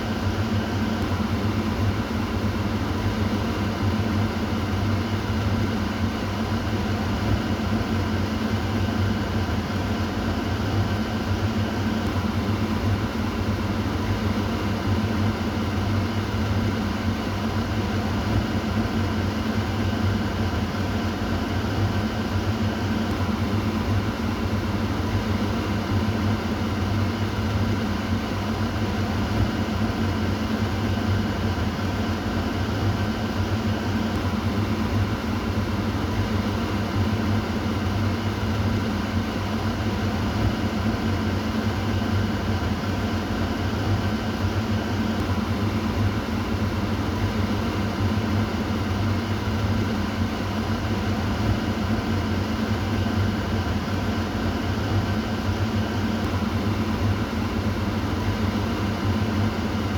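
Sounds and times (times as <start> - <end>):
exhaust fan running: 0.0 - 59.9.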